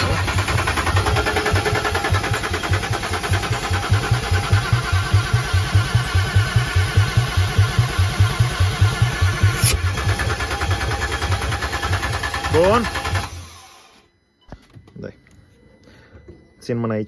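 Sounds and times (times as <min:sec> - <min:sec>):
diesel engine cranking: 0:00.0 - 0:14.0.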